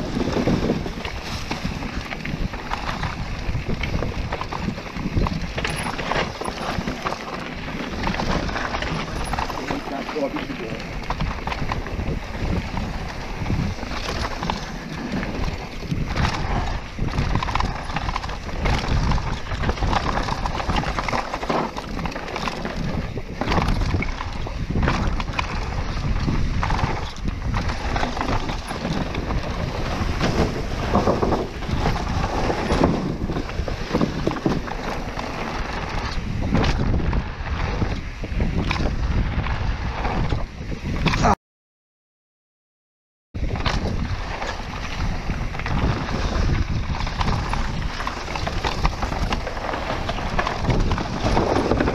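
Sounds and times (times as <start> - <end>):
bike tyres on dirt: 0.0 - 41.3, 43.4 - 51.9
bike rattling and knocking: 0.0 - 41.4, 43.4 - 51.9
wind buffeting microphone: 0.0 - 41.4, 43.4 - 51.9.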